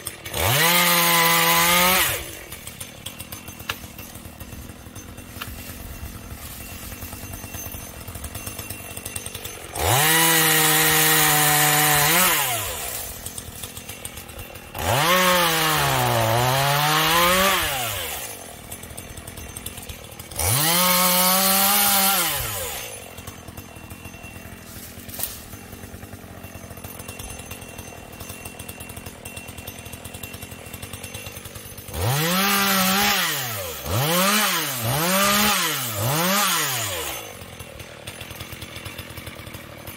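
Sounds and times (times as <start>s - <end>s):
chain cutting into wood: 0.0s - 39.9s
chainsaw idling and revving: 0.0s - 39.9s.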